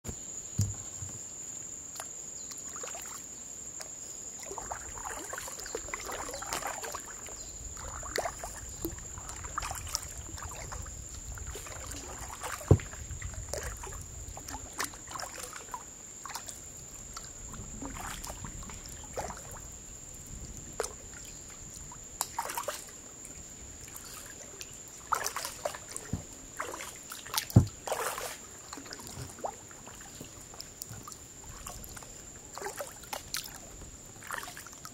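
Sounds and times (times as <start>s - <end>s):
paddle splashing water: 1.9s - 34.9s.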